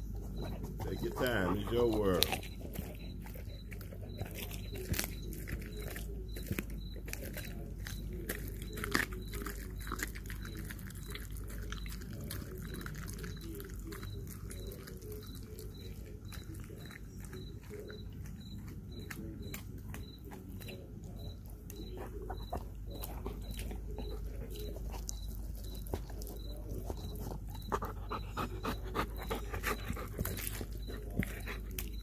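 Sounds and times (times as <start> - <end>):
dog chewing crunching bones: 0.0 - 32.0.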